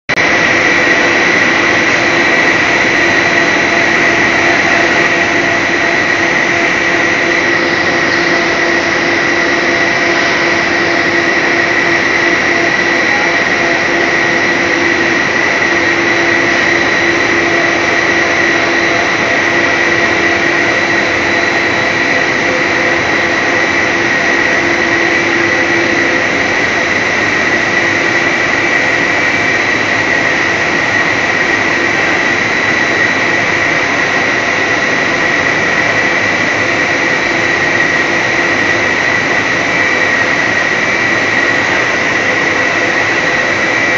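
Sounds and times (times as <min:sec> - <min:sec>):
factory machinery whining: 0:00.1 - 0:43.9.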